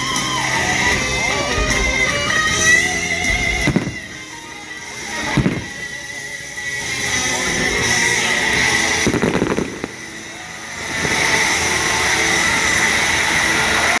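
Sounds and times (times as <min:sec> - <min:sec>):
fireworks cracking: 0:00.0 - 0:14.0
fireworks hiss: 0:00.0 - 0:14.0.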